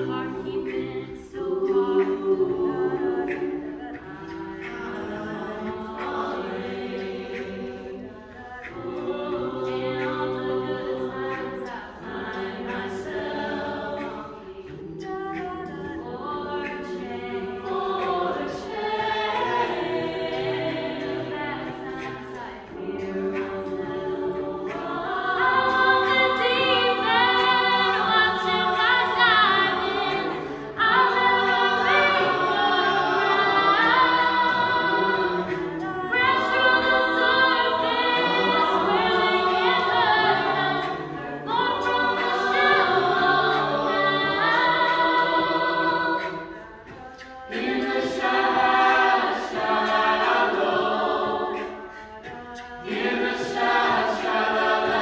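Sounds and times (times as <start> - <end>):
a cappella choir singing: 0.0 - 55.0.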